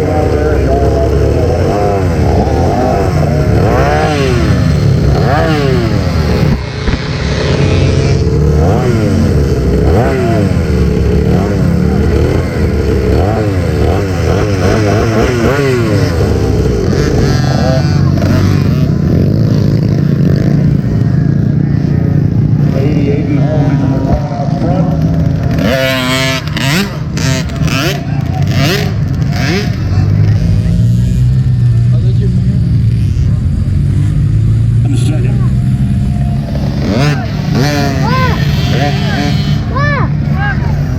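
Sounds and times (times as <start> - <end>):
dirt bike engines racing: 0.0 - 40.9.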